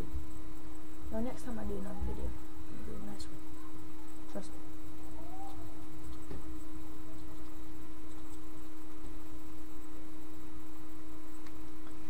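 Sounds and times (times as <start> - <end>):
electrical hum: 0.0 - 12.0
low rumbling hiss: 0.0 - 12.0.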